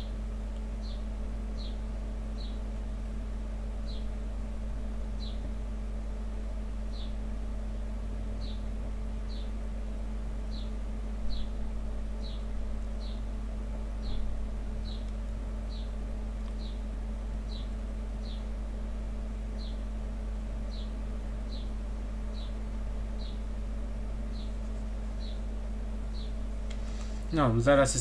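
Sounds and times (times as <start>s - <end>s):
low electrical hum and hiss: 0.0s - 28.0s.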